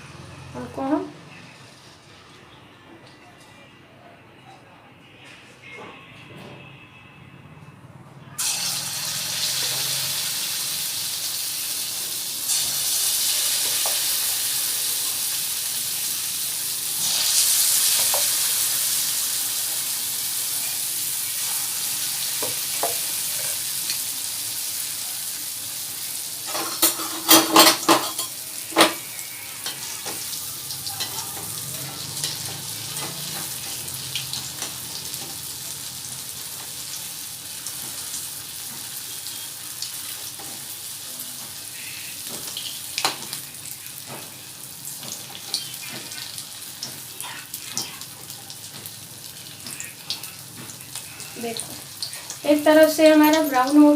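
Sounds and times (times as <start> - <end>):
potatoes sizzling in hot oil: 8.4 - 53.9.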